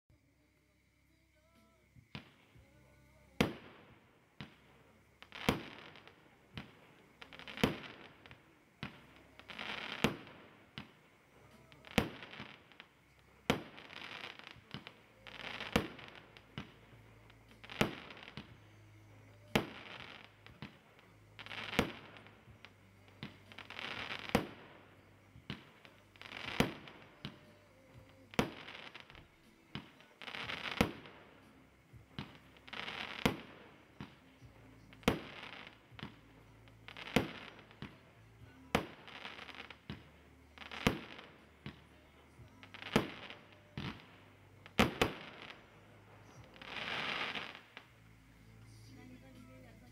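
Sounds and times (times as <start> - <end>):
firework bangs with hiss: 1.4 - 49.9.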